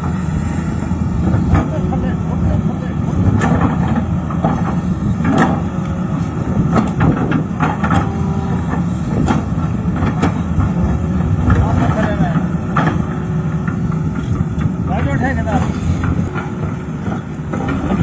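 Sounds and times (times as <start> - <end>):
excavator engine rumbling: 0.0 - 18.0.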